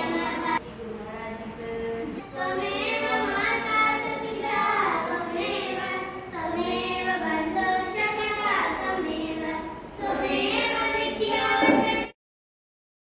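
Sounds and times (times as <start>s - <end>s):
children singing a devotional song: 0.0s - 0.7s, 2.1s - 12.2s.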